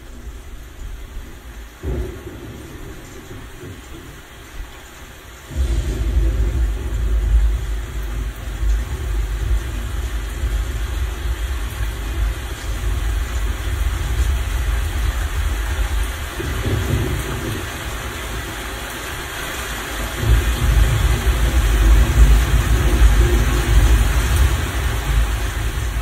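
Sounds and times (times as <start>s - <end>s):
rumbling thunder: 0.0s - 4.8s, 5.5s - 26.0s
steady rain hiss: 0.0s - 26.0s.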